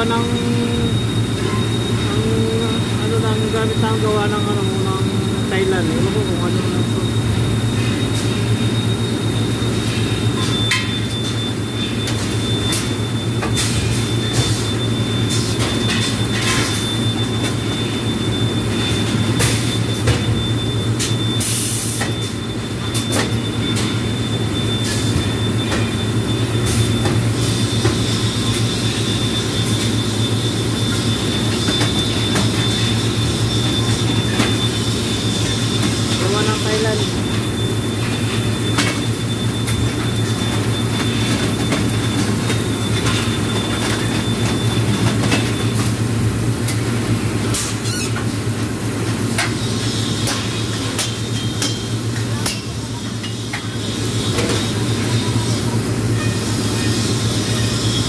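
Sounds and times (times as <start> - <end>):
industrial machinery humming: 0.0 - 58.0.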